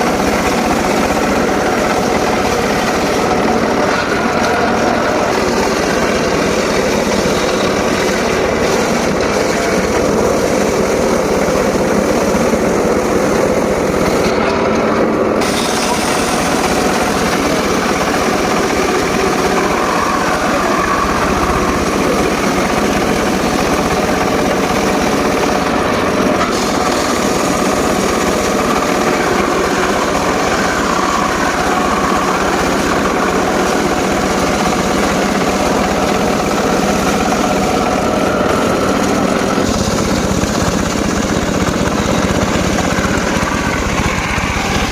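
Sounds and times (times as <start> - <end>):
circular saw cutting wood: 0.0 - 44.9.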